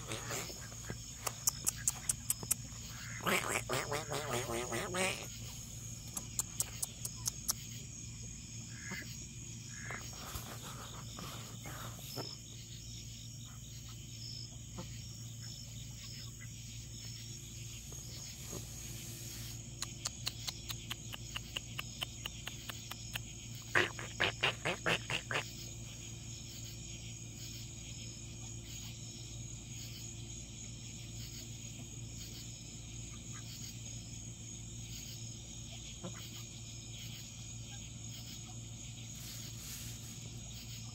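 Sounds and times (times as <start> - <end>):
insect chorus trilling: 0.0 - 40.9
rapid pulsed insect calls: 0.0 - 40.9.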